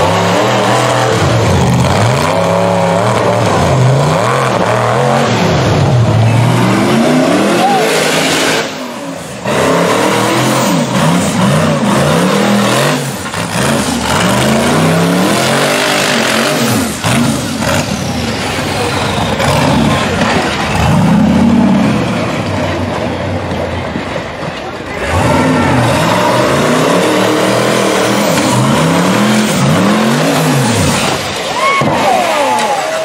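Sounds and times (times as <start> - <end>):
buggy engine revving hard: 0.0 - 23.8, 24.9 - 32.7.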